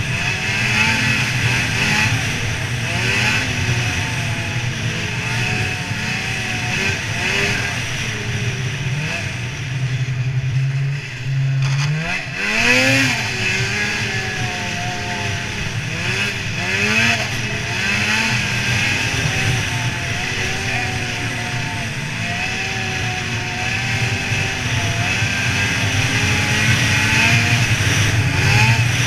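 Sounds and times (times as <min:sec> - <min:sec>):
snowmobile engine revving: 0:00.0 - 0:29.0
steady rushing noise: 0:00.0 - 0:29.0.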